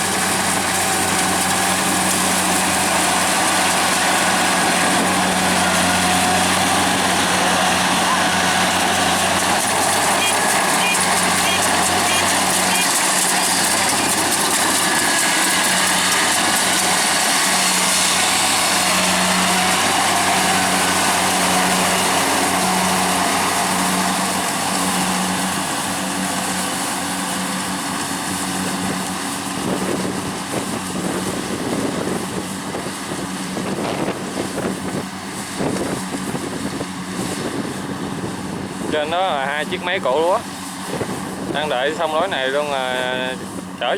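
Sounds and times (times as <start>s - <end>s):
combine harvester diesel engine: 0.0s - 43.9s.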